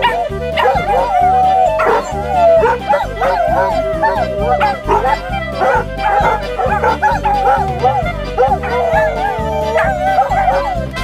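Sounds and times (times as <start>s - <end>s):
polka music with oom-pah beat: 0.0s - 11.0s
small dog howling: 0.0s - 11.0s.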